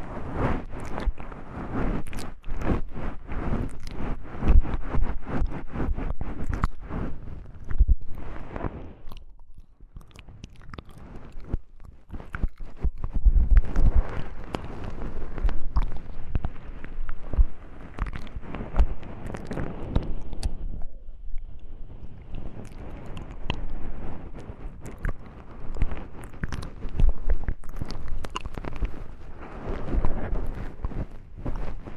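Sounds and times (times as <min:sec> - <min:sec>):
low rumble: 0:00.0 - 0:31.9
rustling: 0:00.0 - 0:31.9
soft clicks and crackles: 0:00.0 - 0:31.9.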